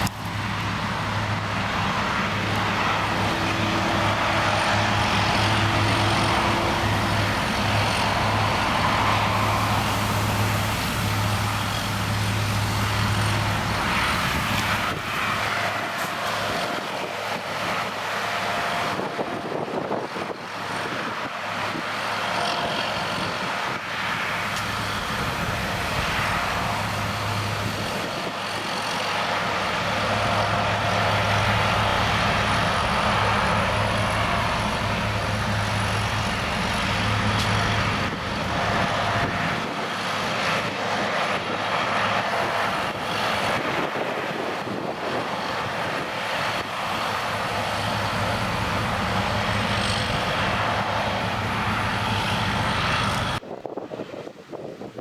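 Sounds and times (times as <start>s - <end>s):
engine drone: 0.0s - 53.7s.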